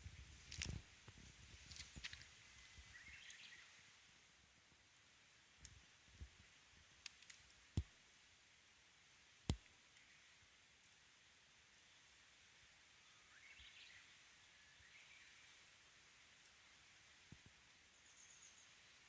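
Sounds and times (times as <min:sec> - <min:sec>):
campfire crackling: 0:00.0 - 0:18.1
faint steady hiss: 0:00.0 - 0:19.0.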